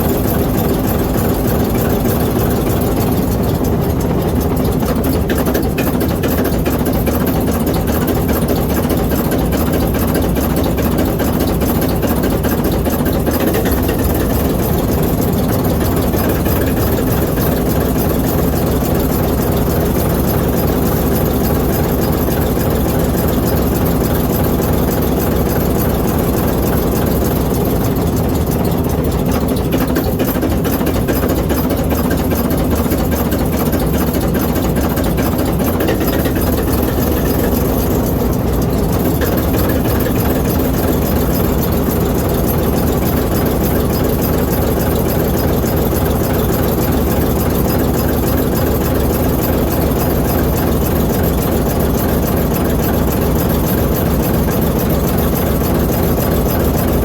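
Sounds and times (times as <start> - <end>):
locomotive diesel engine running: 0.0 - 57.0.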